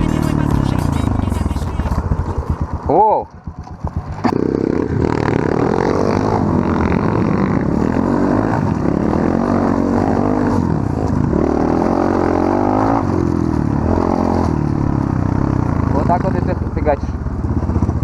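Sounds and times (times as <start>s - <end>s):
off-road motorbike engine revving: 0.0s - 18.0s.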